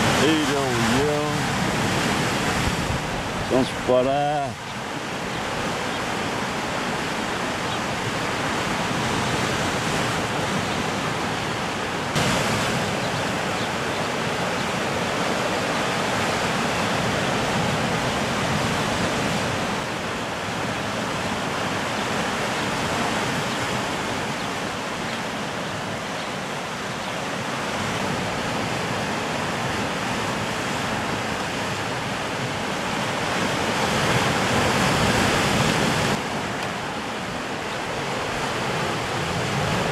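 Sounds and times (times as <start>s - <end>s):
sea surf breaking on rocks: 0.0s - 39.9s.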